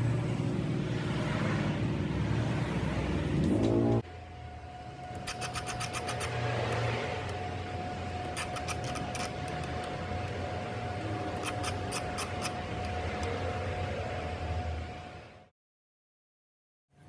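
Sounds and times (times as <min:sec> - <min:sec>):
machine hum: 0:00.0 - 0:15.5.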